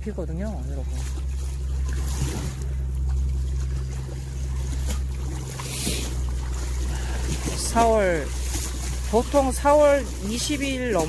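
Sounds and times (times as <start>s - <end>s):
low engine hum: 0.0s - 11.0s
water lapping against rocks: 0.0s - 11.0s.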